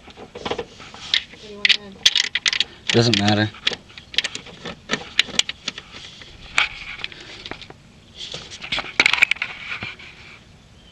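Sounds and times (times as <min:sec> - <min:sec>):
sharp clicks and light knocks: 0:00.0 - 0:10.0.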